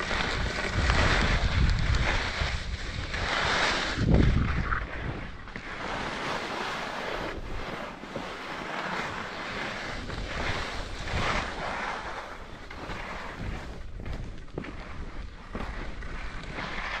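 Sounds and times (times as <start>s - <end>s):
skis scraping over snow: 0.0s - 17.0s
wind rushing over microphone: 0.0s - 17.0s.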